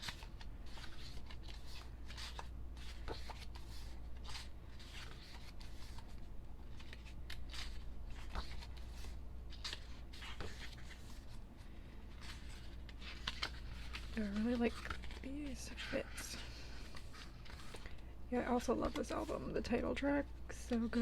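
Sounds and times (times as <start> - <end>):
paper rustling: 0.0 - 19.9.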